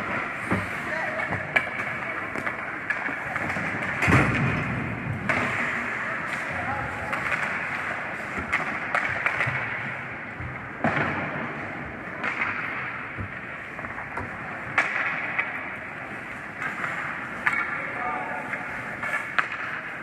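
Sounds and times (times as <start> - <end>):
hockey sticks and puck clacking: 0.0 - 20.0
skates scraping on ice: 0.0 - 20.0.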